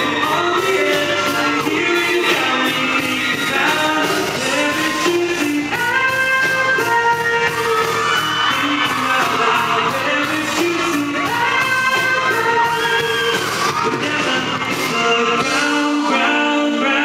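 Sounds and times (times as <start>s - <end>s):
live rock band playing: 0.0s - 17.0s
man singing into microphone: 0.0s - 17.0s.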